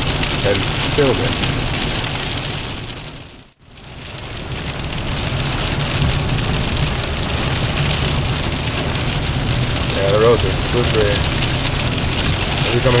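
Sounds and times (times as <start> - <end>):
car rumbling on road: 0.0 - 13.0
sleet and rain hitting car: 0.0 - 13.0.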